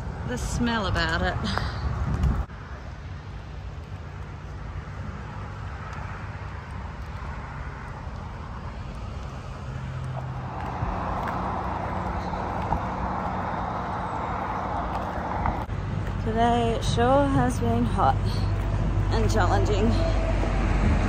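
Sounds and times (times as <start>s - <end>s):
highway traffic: 0.0s - 21.0s.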